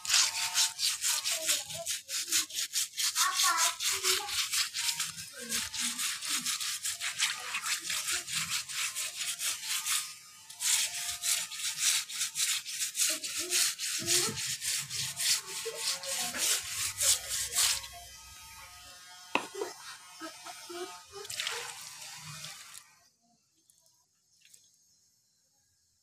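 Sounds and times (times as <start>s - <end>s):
rapid scrubbing strokes: 0.0s - 18.0s, 19.5s - 22.8s.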